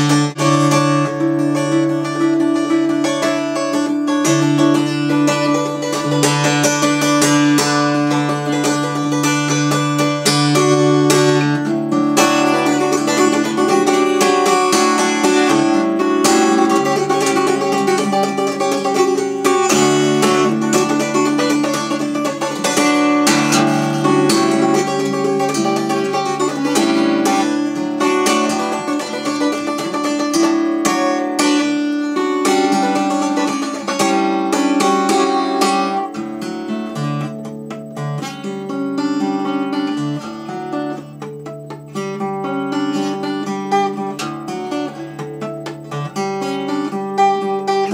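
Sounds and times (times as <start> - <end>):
acoustic guitar strumming and picking: 0.0 - 47.9.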